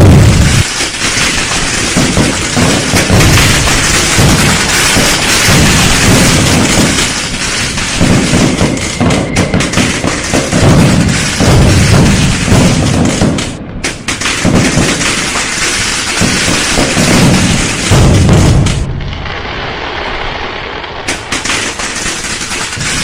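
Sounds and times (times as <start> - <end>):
firecrackers crackling and popping: 0.0 - 23.0
firework booms: 0.0 - 23.0.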